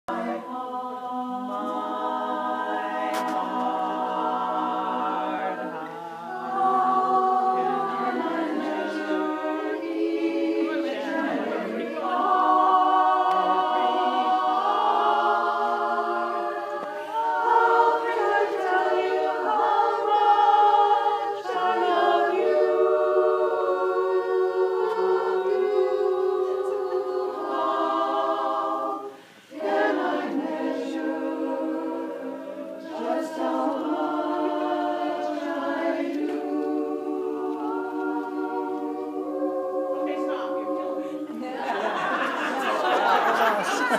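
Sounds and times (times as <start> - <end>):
women singing a cappella: 0.0 - 43.9.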